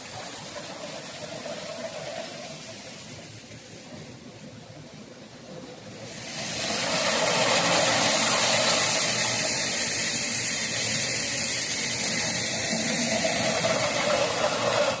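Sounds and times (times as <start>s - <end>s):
heavy rain hissing: 0.0s - 4.4s, 5.8s - 15.0s.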